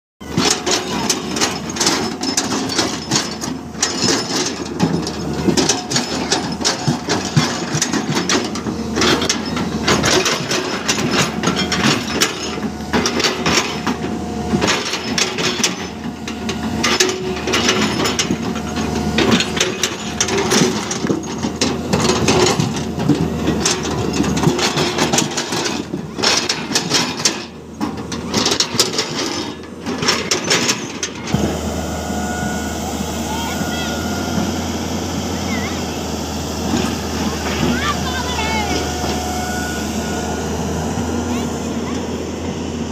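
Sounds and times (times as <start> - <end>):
diesel engine running: 0.2 - 42.9.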